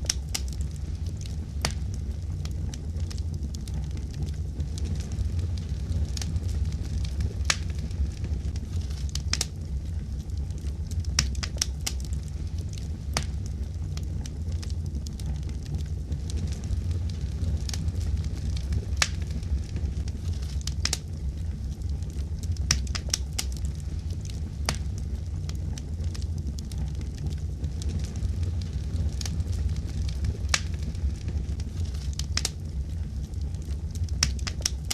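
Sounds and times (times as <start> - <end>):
low rumble: 0.0 - 34.9
wood fire crackling: 0.0 - 34.9.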